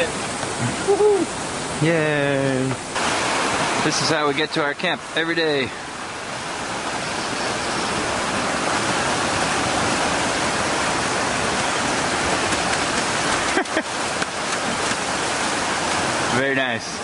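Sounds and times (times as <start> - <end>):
rushing creek water: 0.0 - 17.0.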